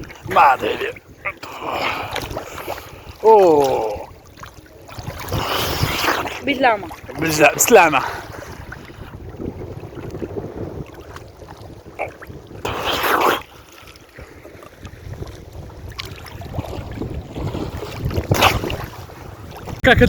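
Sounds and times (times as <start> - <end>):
wind buffeting microphone: 0.0 - 12.9, 13.5 - 20.0
loud water splashes: 0.0 - 20.0
sea water sloshing: 0.0 - 20.0.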